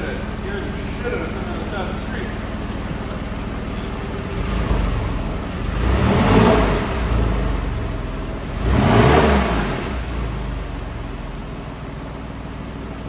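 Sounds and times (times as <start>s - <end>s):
car engine revving: 0.0s - 12.0s
car engine idling: 0.0s - 13.0s.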